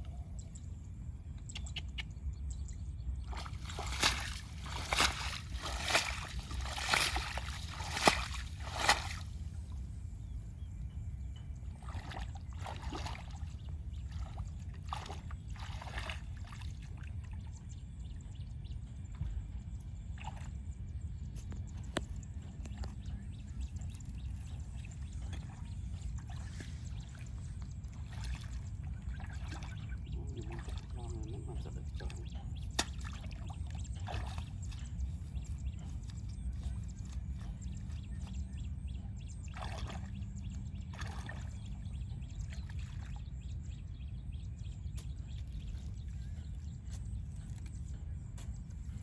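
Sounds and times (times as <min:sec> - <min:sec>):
water sloshing and splashing: 0:03.2 - 0:10.0, 0:11.6 - 0:17.8, 0:21.6 - 0:38.6, 0:39.3 - 0:49.0.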